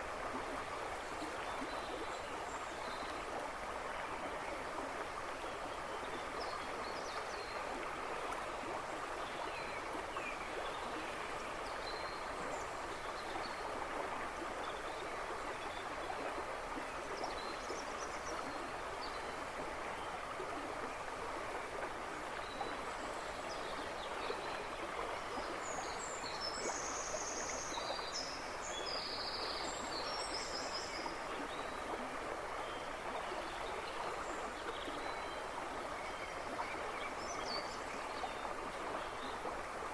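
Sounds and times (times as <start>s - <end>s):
river babbling and rushing: 0.0s - 39.9s.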